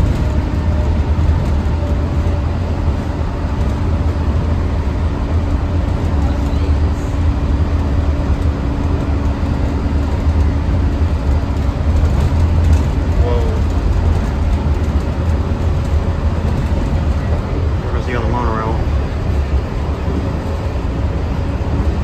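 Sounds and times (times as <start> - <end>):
monorail running gear rumble: 0.0 - 22.0.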